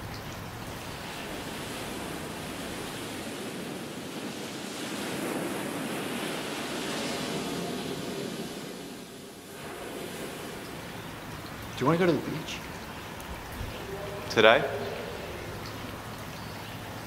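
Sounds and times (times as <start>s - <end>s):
ocean waves washing in: 0.6s - 16.3s.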